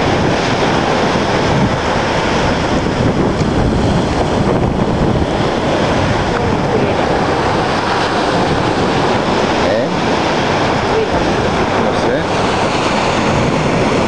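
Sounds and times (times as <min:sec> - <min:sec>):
waves breaking on beach: 0:00.0 - 0:14.0
wind on microphone: 0:00.0 - 0:14.0.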